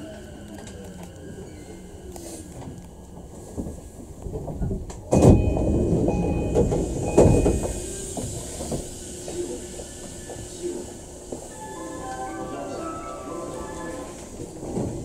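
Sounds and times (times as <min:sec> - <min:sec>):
train car low hum: 0:00.0 - 0:15.0
train doors opening with air rush: 0:00.0 - 0:15.0.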